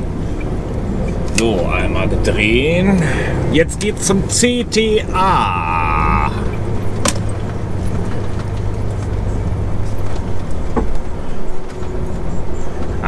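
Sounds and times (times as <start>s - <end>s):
truck diesel engine humming: 0.0s - 13.0s.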